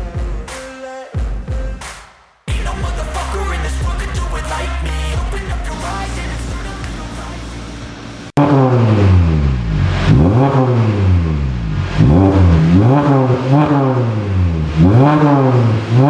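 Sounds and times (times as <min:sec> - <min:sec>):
car engine revving: 0:02.5 - 0:16.0.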